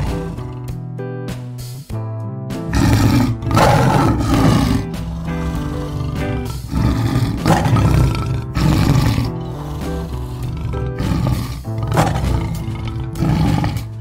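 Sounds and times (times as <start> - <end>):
tiger growling and roaring: 0.0 - 0.9, 2.7 - 14.0
background music with held notes: 0.0 - 14.0.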